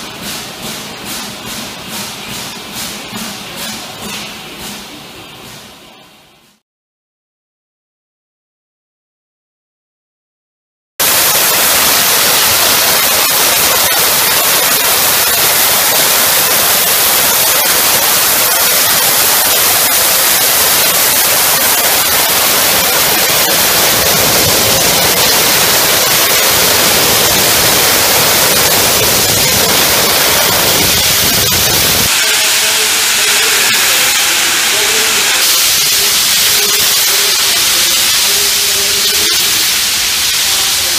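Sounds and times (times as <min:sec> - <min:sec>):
steam locomotive hissing steam: 0:00.0 - 0:03.8, 0:11.0 - 0:40.9.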